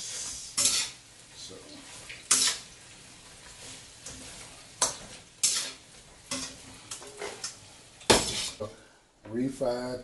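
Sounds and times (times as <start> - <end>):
metal utensils scraping in a pan: 0.0 - 8.7
faint sizzle: 0.0 - 10.0.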